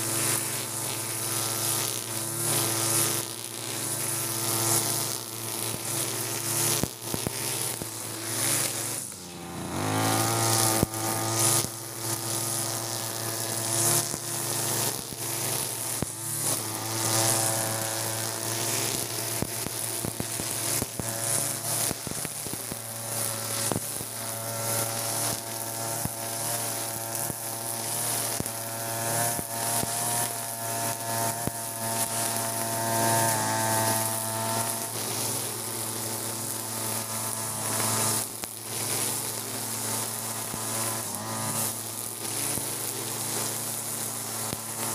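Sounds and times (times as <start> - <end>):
brush cutter engine running: 0.0 - 44.9
trimmer line cutting grass: 0.0 - 44.9.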